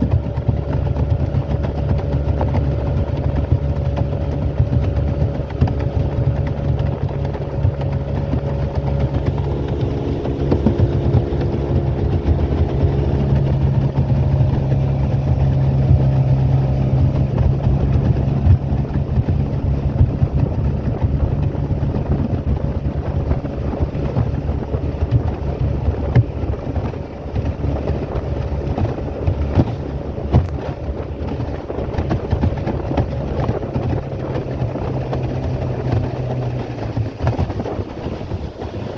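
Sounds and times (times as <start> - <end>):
boat motor running: 0.0 - 38.9.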